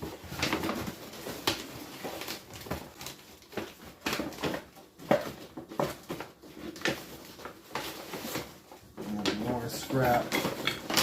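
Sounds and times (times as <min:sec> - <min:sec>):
hard objects knocking and clacking: 0:00.1 - 0:11.0.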